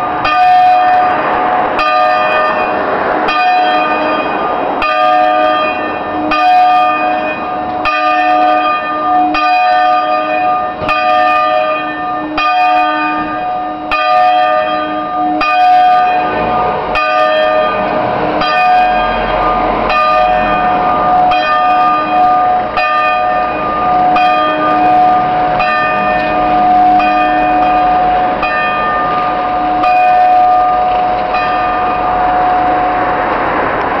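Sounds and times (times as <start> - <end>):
church bells ringing: 0.0 - 33.6.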